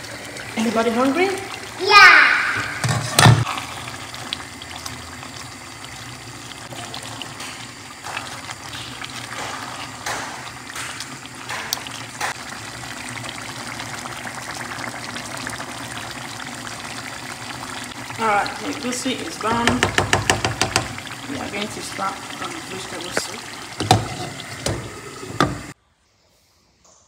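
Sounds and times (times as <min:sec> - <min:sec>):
soup simmering and bubbling: 0:00.0 - 0:25.8.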